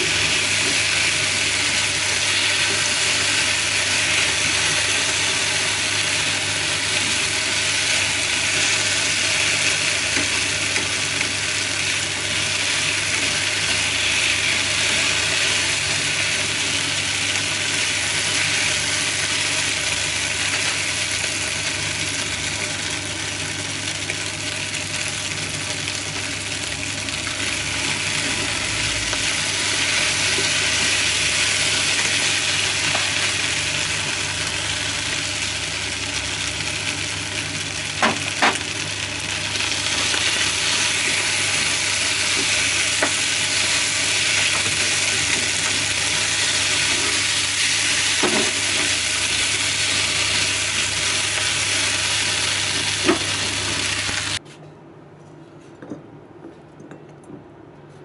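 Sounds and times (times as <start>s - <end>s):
food sizzling in a frying pan: 0.0s - 54.4s.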